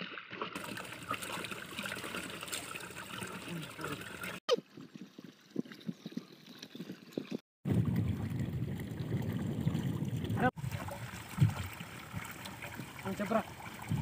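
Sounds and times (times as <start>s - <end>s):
water gushing from pipe into tank: 0.0s - 4.4s, 6.7s - 14.0s.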